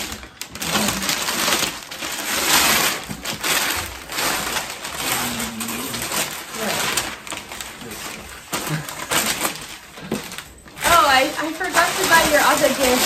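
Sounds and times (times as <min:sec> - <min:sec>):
wrapping paper tearing and crumpling: 0:00.0 - 0:13.0.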